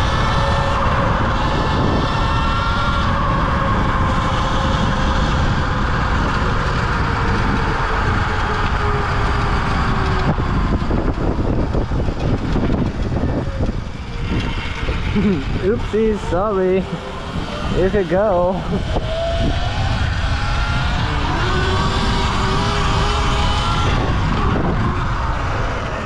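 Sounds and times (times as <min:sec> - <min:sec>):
electric motor whine: 0:00.0 - 0:26.0
wind rushing over microphone: 0:00.0 - 0:26.0.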